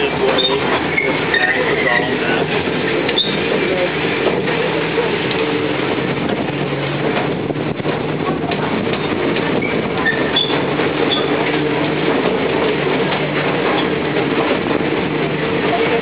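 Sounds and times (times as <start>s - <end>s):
low engine drone: 0.0s - 16.0s
road and carriage noise: 0.0s - 16.0s.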